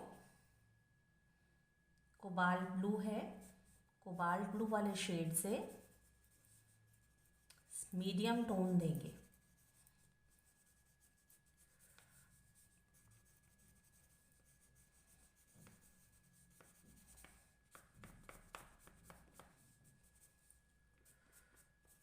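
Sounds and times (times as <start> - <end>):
oil pastel scratching on paper: 3.1 - 22.0.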